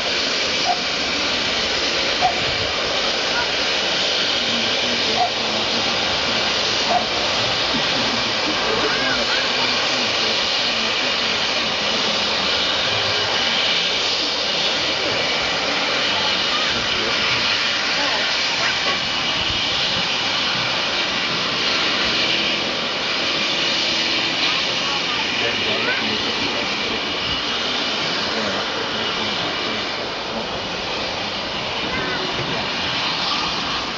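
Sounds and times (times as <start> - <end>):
steam hissing from locomotive: 0.0 - 33.9.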